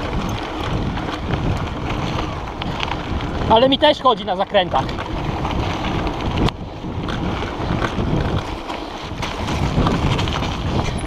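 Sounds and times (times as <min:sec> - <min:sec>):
bike clacks and rattles: 0:00.0 - 0:11.0
bike tyres on gravel: 0:00.0 - 0:11.0
wind buffeting microphone: 0:00.0 - 0:11.0.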